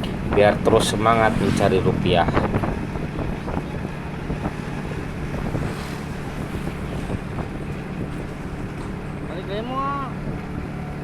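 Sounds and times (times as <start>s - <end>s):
wind rushing over microphone: 0.0s - 9.3s
motorcycle engine running: 0.0s - 11.0s.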